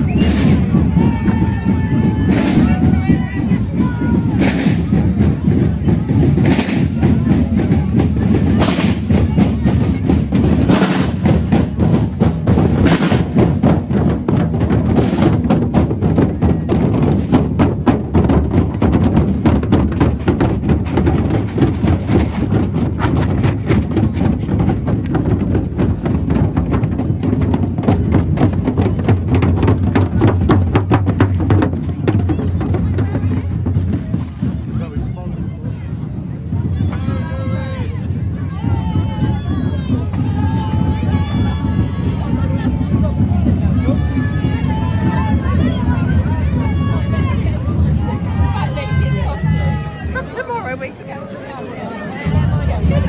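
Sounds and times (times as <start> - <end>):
procession band drums: 0.0 - 51.0.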